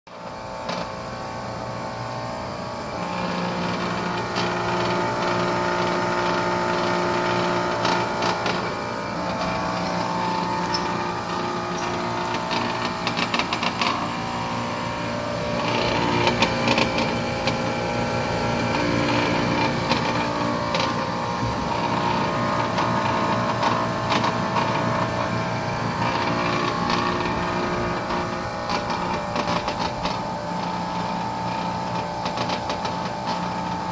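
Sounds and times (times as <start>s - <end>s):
air conditioner humming: 0.2s - 33.9s
loud rattling buzz: 0.3s - 33.9s.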